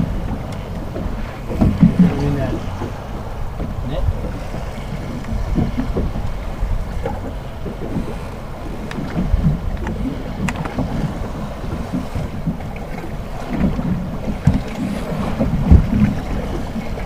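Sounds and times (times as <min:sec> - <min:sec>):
water slapping against hull: 0:00.0 - 0:17.0
wind buffeting microphone: 0:00.0 - 0:17.0.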